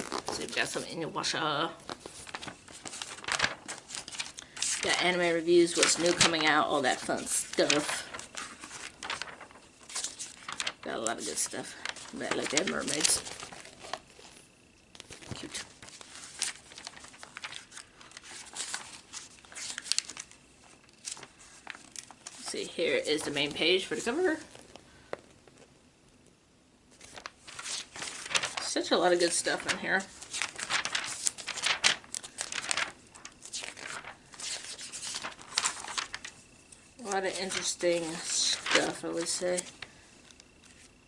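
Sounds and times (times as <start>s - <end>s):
magazine pages rustling: 0.0s - 25.7s, 26.9s - 41.0s.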